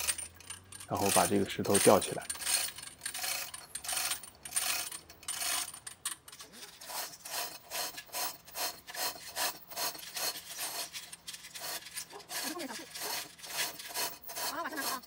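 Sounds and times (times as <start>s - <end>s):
hoist chain links rattling: 0.0s - 15.0s.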